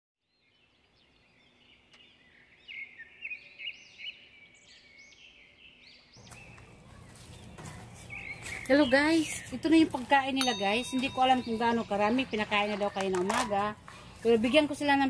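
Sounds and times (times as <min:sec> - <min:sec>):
birds chirping: 0:00.2 - 0:15.0
outdoor background noise: 0:00.2 - 0:15.0.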